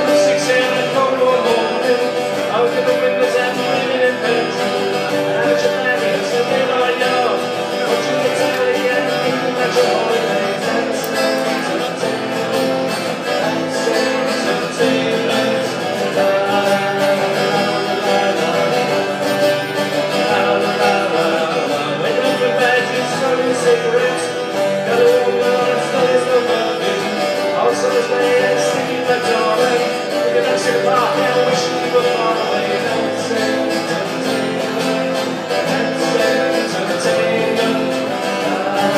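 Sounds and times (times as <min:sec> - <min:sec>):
two acoustic guitars playing: 0:00.0 - 0:38.9.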